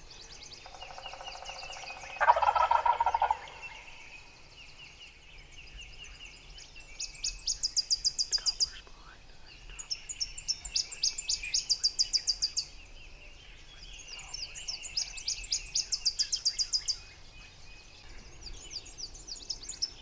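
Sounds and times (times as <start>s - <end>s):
songbird singing trill: 0.0s - 20.0s.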